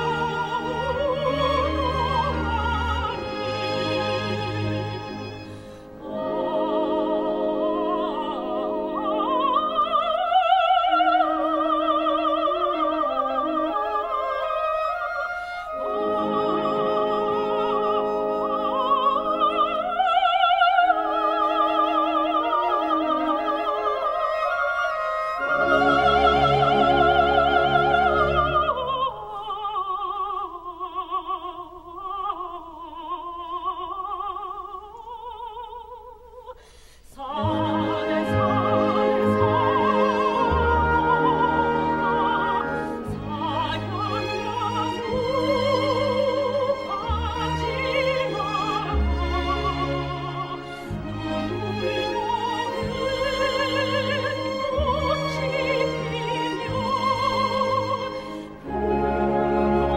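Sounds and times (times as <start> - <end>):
orchestra strings and horns: 0.0 - 32.5, 37.2 - 59.9
woman singing classical song: 0.0 - 59.9.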